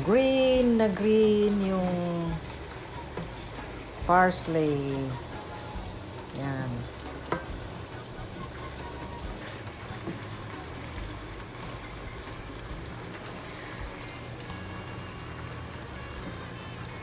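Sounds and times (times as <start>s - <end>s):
sauce sizzling and bubbling in pan: 0.0s - 17.0s.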